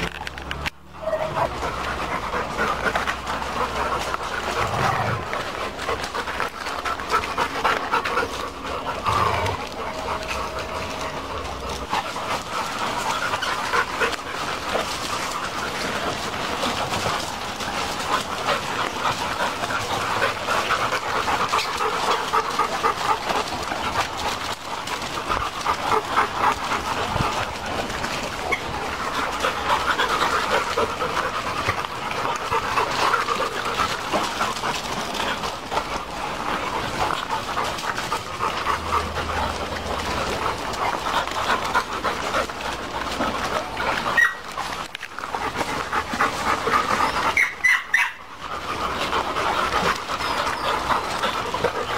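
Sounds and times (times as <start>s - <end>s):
dogs panting rapidly: 0.5s - 51.9s.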